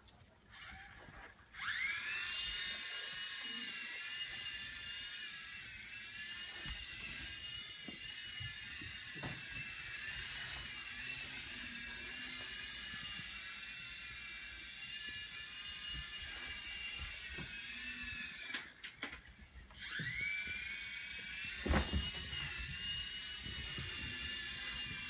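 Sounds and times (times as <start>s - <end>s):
toy helicopter rotors whining: 0.4s - 25.0s.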